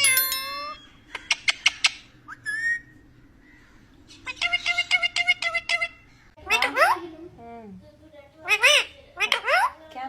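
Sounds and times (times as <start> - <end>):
parakeet squawking and calling: 0.0 - 7.1, 8.4 - 9.9.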